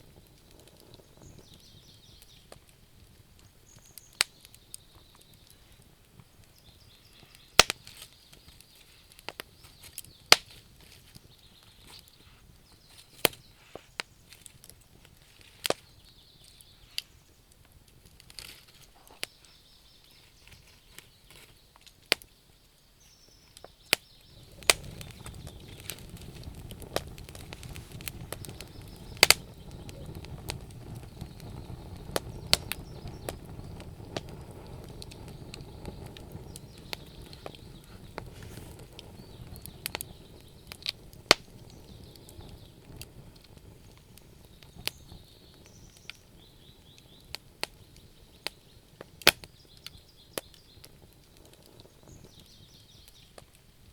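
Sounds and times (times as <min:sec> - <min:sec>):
bonfire crackling and popping: 0:00.0 - 0:53.9
low rumble of burning fire: 0:00.0 - 0:53.9.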